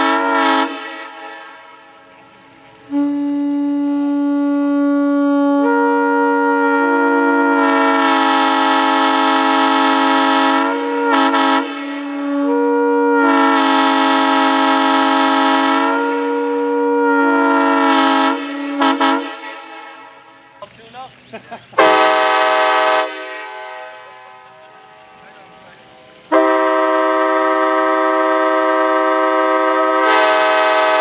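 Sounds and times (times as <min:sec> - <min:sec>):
train air horn chord: 0:00.0 - 0:02.2, 0:02.8 - 0:20.6, 0:21.8 - 0:31.0.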